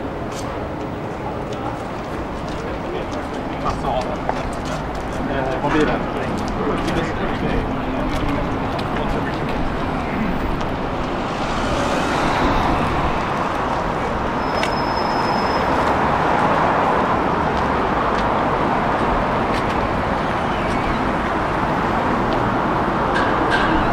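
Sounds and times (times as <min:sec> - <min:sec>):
road traffic noise: 0:00.0 - 0:23.9.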